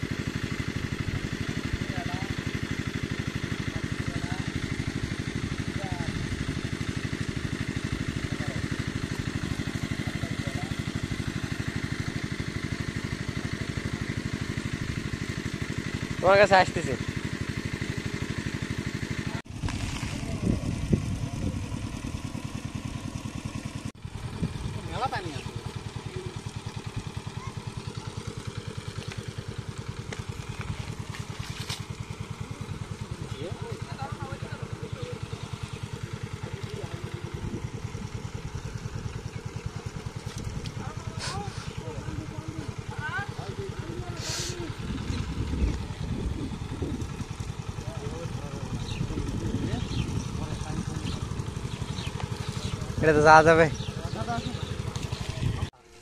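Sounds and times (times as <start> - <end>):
water pump engine thumping: 0.0 - 56.0.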